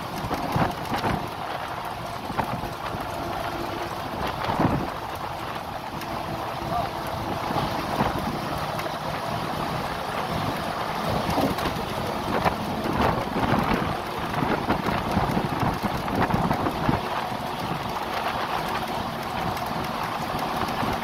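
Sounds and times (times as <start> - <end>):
vehicle road noise: 0.0 - 21.0
wind rushing over microphone: 0.0 - 21.0.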